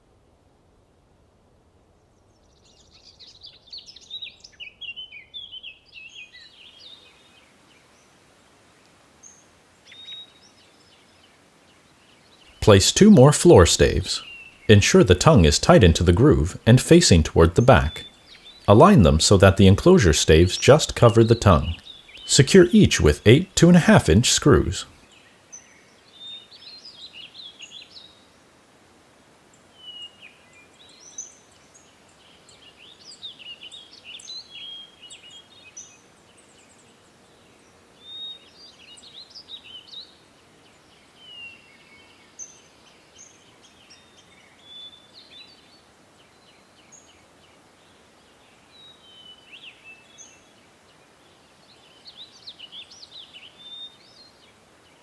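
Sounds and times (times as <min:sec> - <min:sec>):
faint steady hiss: 0:00.0 - 0:55.0
small birds chirping and singing: 0:02.2 - 0:08.2, 0:09.2 - 0:28.4, 0:29.8 - 0:55.0.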